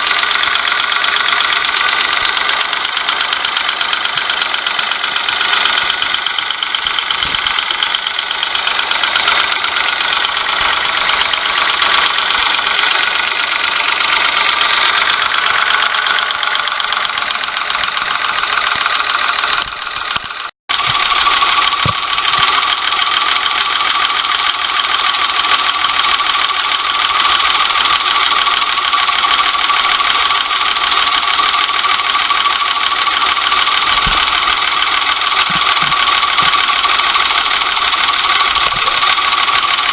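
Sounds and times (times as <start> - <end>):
truck engine clattering: 0.0 - 39.9.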